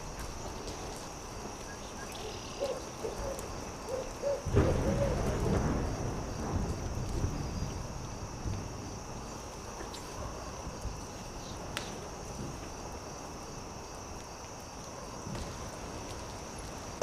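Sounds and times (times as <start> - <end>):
campfire crackling: 0.0 - 17.0
insects chirring: 0.0 - 17.0.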